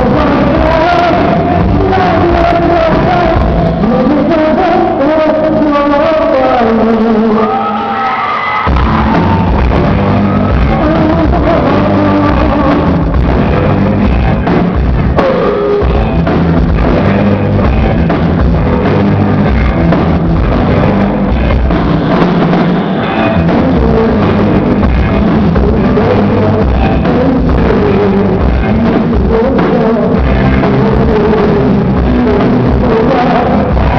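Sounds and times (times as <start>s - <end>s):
live rock band playing: 0.0s - 33.9s
person singing: 0.0s - 33.9s.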